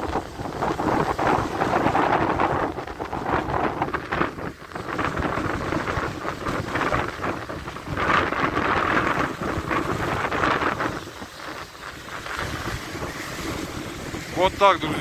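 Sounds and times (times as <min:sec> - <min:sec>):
choppy surf breaking on beach: 0:00.0 - 0:15.0
wave splashing over driftwood: 0:00.0 - 0:15.0.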